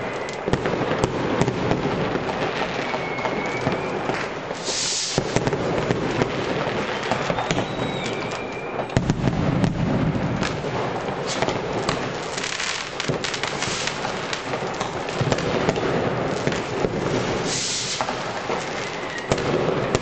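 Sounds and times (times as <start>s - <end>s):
fireworks cracking and banging: 0.0s - 20.0s
whistling firework: 0.0s - 20.0s.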